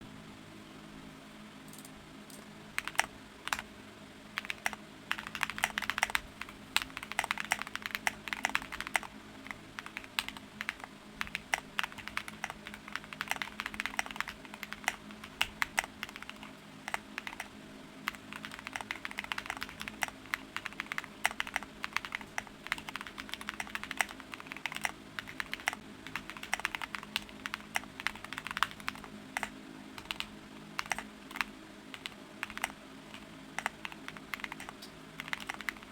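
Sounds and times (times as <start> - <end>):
mechanical keyboard typing: 2.8 - 3.6, 4.4 - 17.5, 18.1 - 35.9.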